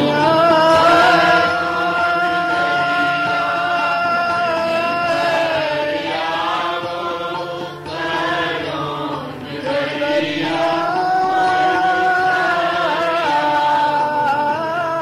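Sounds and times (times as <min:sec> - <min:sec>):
musical accompaniment: 0:00.0 - 0:15.0
person chanting a hymn: 0:00.0 - 0:15.0.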